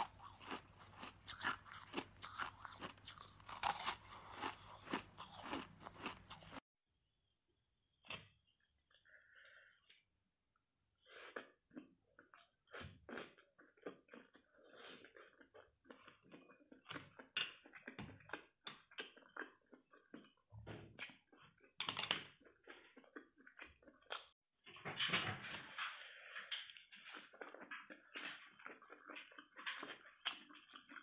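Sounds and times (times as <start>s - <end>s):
person chewing: 0.0s - 6.6s, 11.0s - 24.4s, 26.0s - 31.0s.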